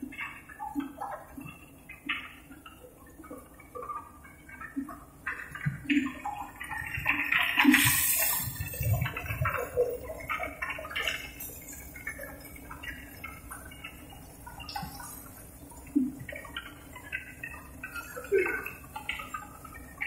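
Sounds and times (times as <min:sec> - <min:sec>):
water churning and splashing: 0:00.0 - 0:20.0.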